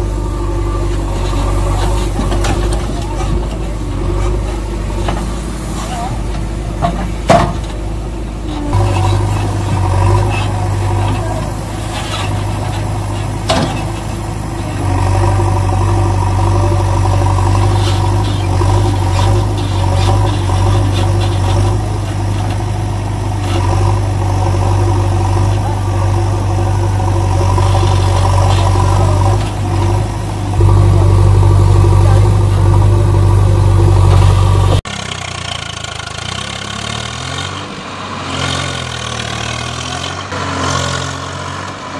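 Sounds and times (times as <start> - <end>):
heavy diesel engine running: 0.0 - 41.9
quieter engine sound: 0.0 - 41.9.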